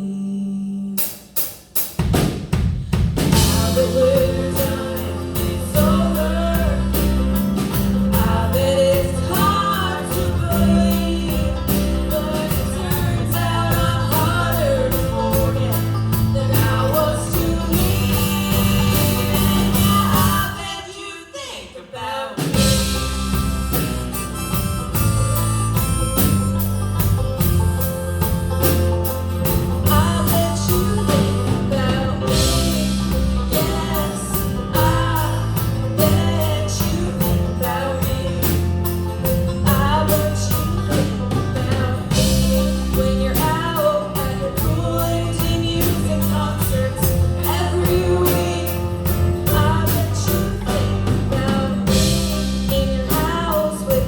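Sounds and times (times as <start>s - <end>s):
steady drum beat: 1.0s - 20.6s, 22.4s - 54.0s
band playing pop-rock: 1.0s - 20.9s, 22.4s - 54.0s
repeating bass line: 3.3s - 20.6s, 22.6s - 54.0s.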